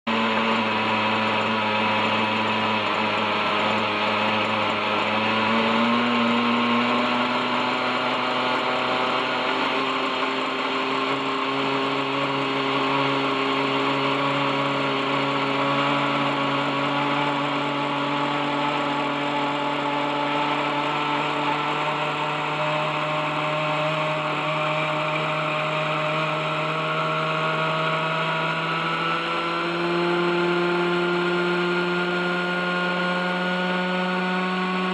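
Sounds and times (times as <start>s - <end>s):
model helicopter engine running: 0.1s - 34.9s.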